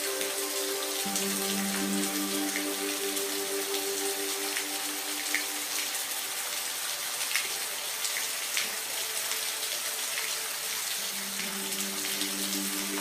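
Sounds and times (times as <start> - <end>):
raindrops striking close by: 0.0 - 13.0
steady rain hissing: 0.0 - 13.0.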